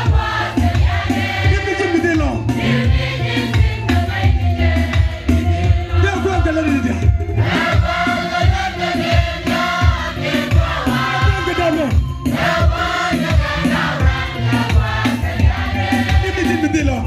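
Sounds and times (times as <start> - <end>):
steady drum beat: 0.0 - 16.7
group singing gospel song: 0.0 - 16.8.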